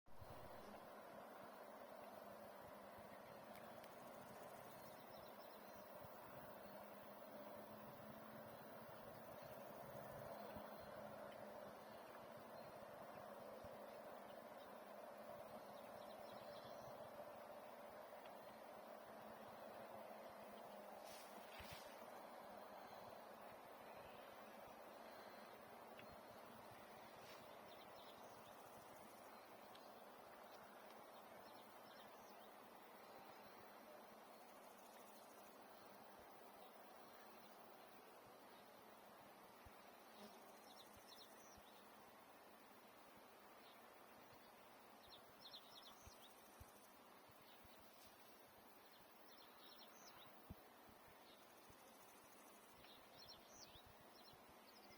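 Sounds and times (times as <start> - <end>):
low steady hiss of air: 0.1 - 54.9.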